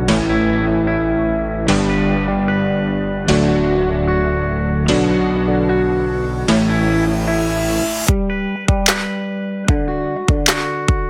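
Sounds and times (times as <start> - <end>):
guitar chords with effects: 0.0 - 11.0.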